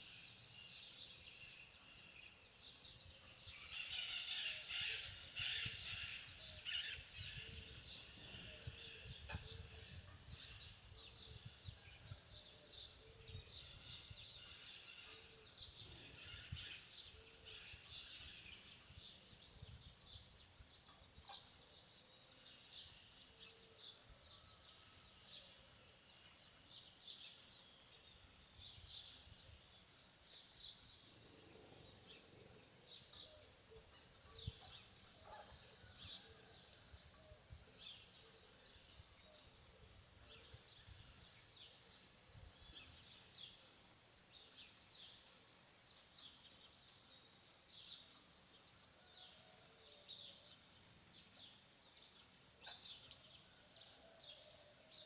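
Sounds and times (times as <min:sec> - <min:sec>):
light steady rain: 0:00.0 - 0:55.0.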